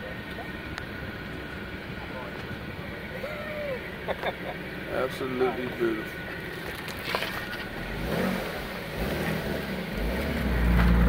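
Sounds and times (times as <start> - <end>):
car engine and exhaust: 0.0 - 11.0.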